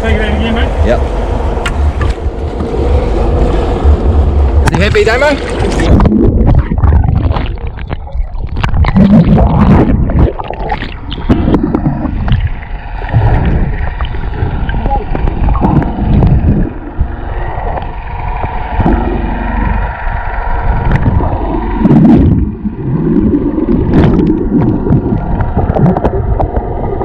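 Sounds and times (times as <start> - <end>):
low rumbling on microphone: 0.0 - 27.0
water splashing alongside a boat: 0.0 - 27.0.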